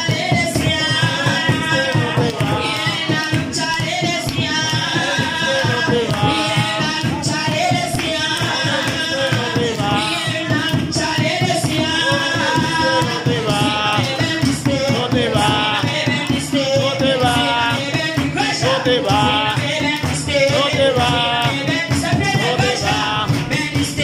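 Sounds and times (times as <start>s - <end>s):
woman singing into microphone: 0.0s - 23.9s
amplified worship singing: 0.0s - 24.0s
musical accompaniment: 0.0s - 24.0s.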